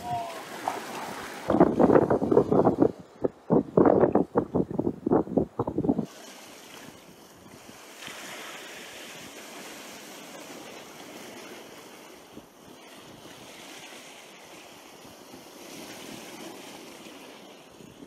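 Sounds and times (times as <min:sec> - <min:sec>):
waves washing against rocks: 0:00.0 - 0:03.0, 0:05.9 - 0:18.0
wind: 0:00.0 - 0:18.0.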